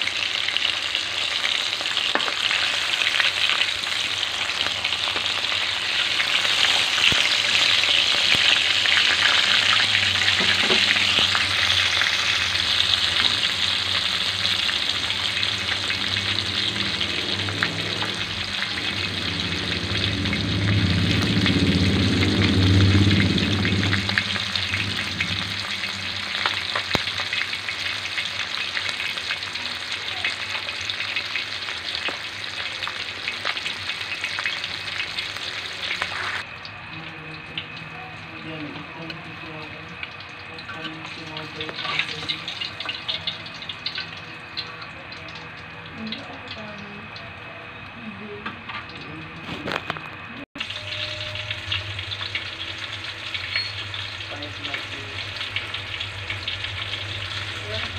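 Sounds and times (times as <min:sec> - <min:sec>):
fish frying in oil: 0:00.0 - 0:57.9
low hum: 0:03.4 - 0:29.3, 0:32.8 - 0:57.9.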